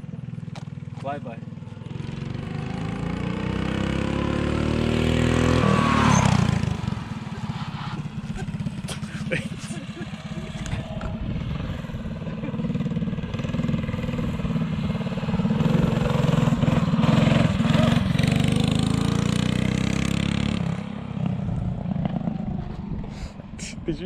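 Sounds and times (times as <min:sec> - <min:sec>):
mini bike engine passing: 0:00.1 - 0:23.1.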